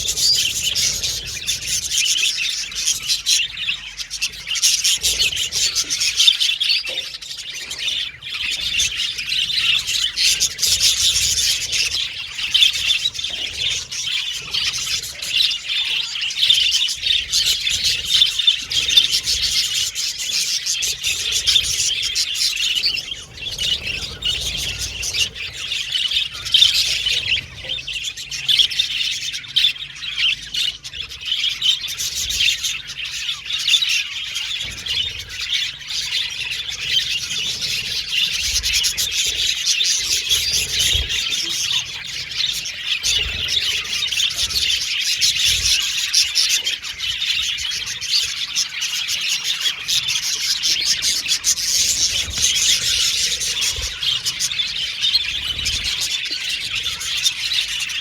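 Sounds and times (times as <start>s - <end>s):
budgerigars chirping and warbling: 0.0s - 58.0s.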